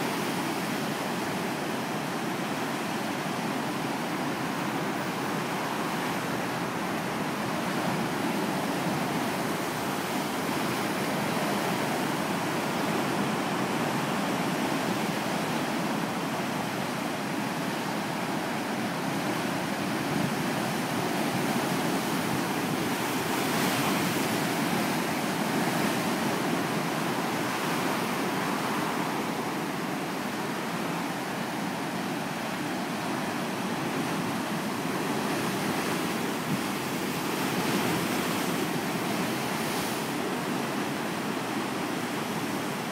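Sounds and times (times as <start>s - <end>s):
ocean waves breaking: 2.0s - 42.9s.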